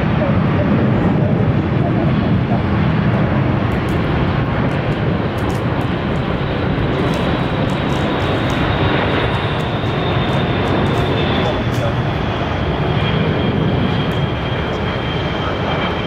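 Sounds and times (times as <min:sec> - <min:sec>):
faint high engine whine: 0:00.0 - 0:16.0
jet engine noise: 0:00.0 - 0:16.0.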